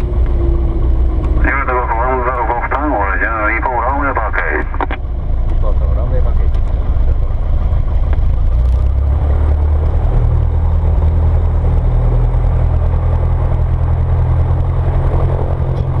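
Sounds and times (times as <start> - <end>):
propeller airplane engine drone: 0.0 - 16.0.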